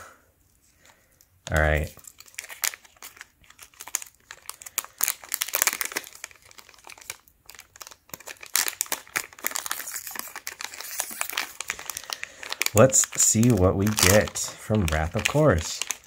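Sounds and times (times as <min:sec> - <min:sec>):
foil pack crinkling: 0:00.7 - 0:16.0.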